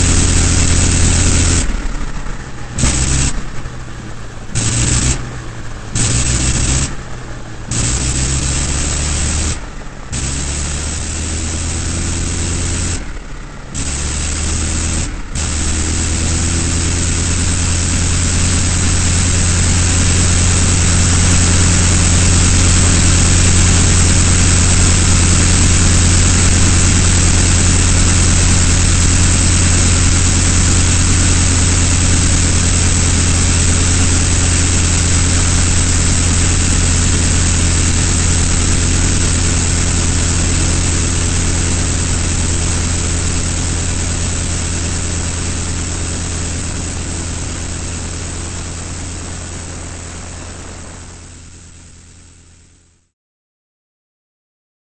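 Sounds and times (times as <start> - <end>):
rotary aero engine droning: 0.0 - 52.7.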